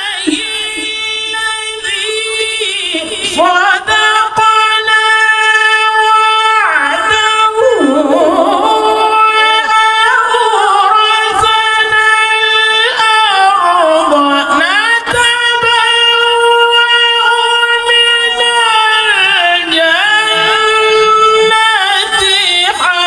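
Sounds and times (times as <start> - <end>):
man chanting melodically: 0.0 - 23.0.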